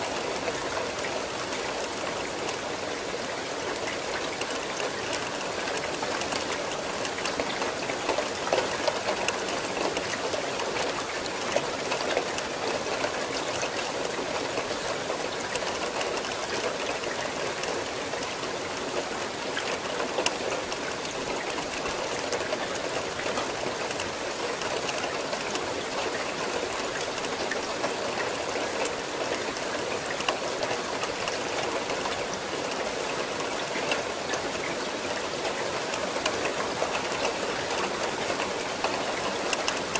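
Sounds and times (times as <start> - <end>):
steady rain falling: 0.0 - 39.9
raindrops ticking: 0.1 - 39.9.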